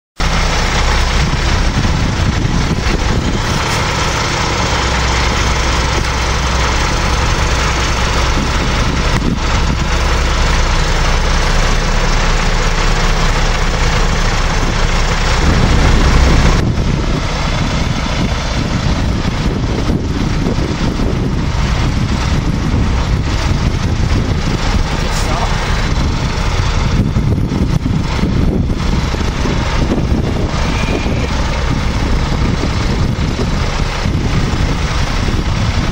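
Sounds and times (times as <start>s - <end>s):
diesel engine running: 0.2s - 35.9s.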